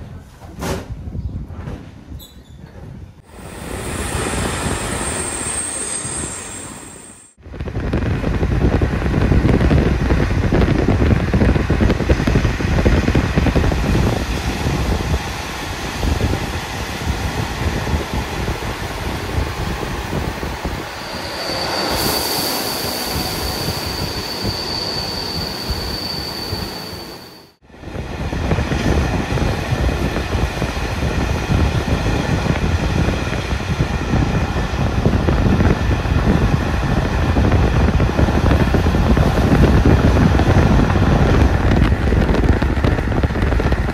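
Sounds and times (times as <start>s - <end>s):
train wheel and rail rumble: 0.0s - 43.9s.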